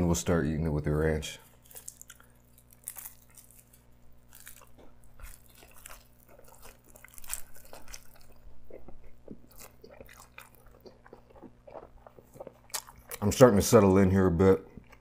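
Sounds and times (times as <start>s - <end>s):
person chewing crunchy pizza: 1.4s - 15.0s.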